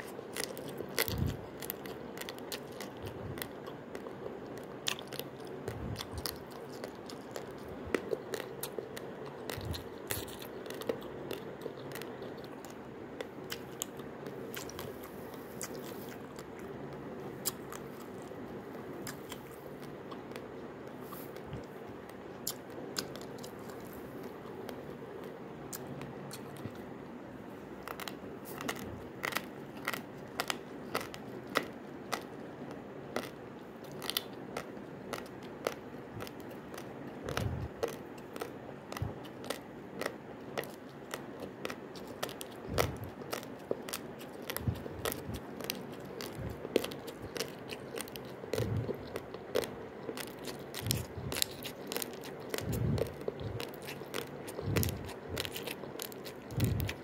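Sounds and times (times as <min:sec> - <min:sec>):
crunching raw rice: 0:00.0 - 0:57.0.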